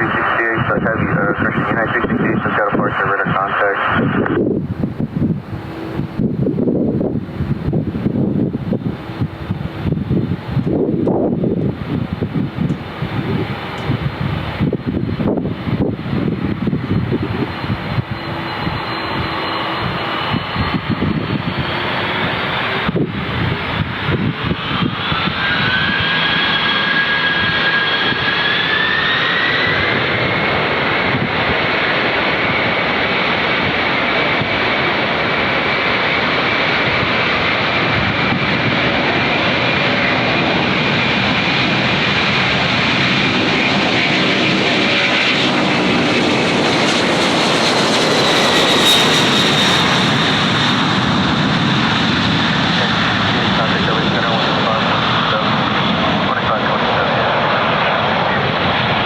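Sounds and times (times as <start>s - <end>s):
high engine whine: 0.0s - 59.0s
jet engines roaring: 0.0s - 59.0s.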